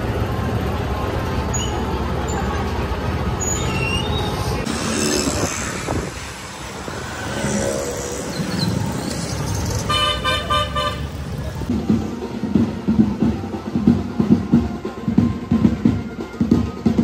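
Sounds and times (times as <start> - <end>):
road traffic engine rumble: 0.0 - 17.0.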